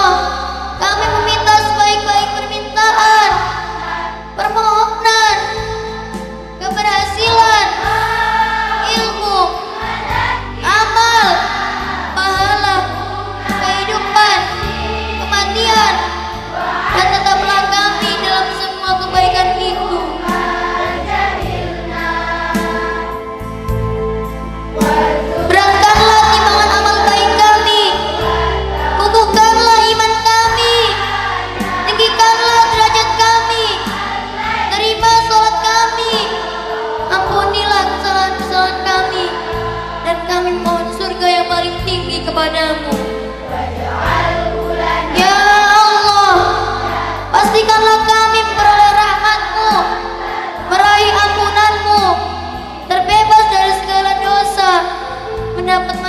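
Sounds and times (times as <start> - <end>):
instrumental backing music: 0.0 - 56.0.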